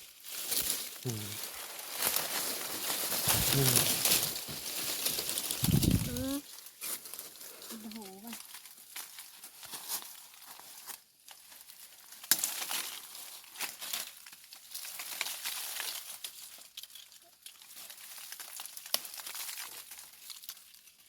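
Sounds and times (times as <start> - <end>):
dry rustling and crinkling: 0.0 - 21.0.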